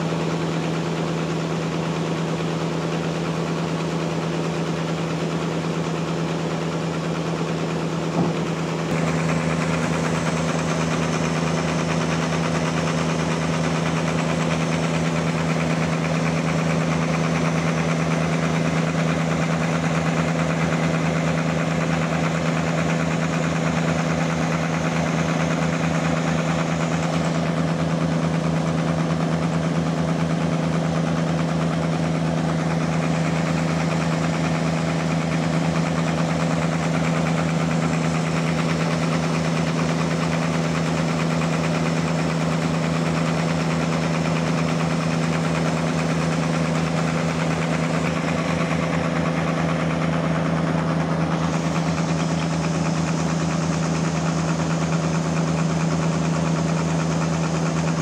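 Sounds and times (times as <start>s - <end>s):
sawmill machine hum: 0.0s - 58.0s.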